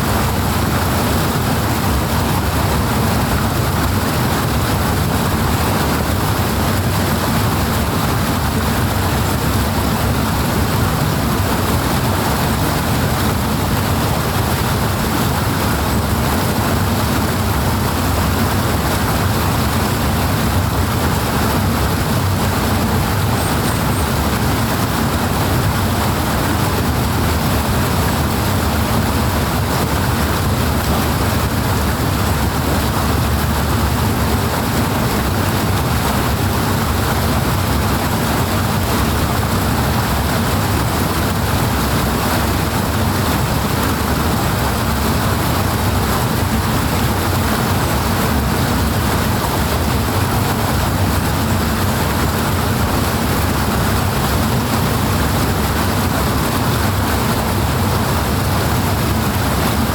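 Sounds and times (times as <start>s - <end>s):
water rushing and churning: 0.0s - 59.9s.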